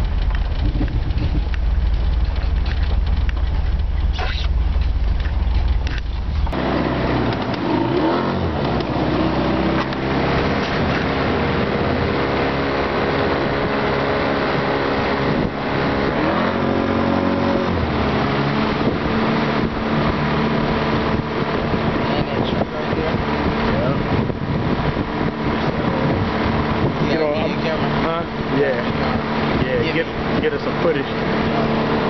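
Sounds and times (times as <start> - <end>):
outboard motor running: 0.0 - 32.0.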